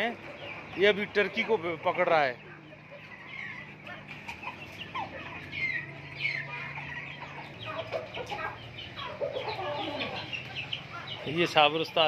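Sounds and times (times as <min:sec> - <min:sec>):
chickens clucking: 0:00.0 - 0:12.0
chicks cheeping: 0:00.0 - 0:12.0.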